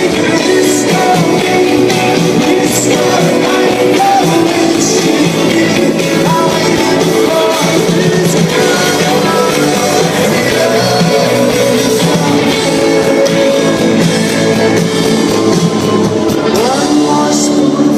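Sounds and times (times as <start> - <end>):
electric guitars: 0.0 - 17.9
live rock band playing: 0.0 - 17.9
person singing: 0.0 - 17.9.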